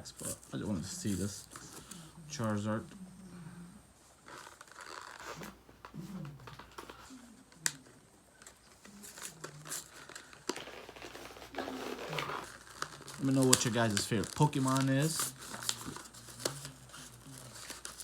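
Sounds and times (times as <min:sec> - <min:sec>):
plastic and cardboard crinkling: 0:00.0 - 0:02.9, 0:04.2 - 0:18.0.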